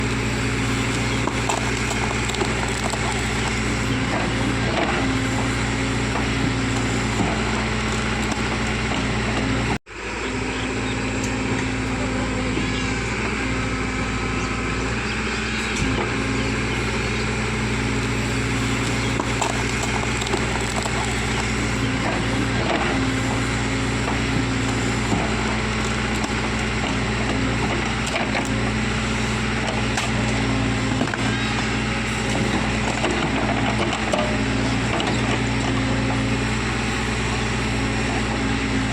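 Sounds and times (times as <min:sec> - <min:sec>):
diesel engine of earth-moving machine: 0:00.0 - 0:38.9.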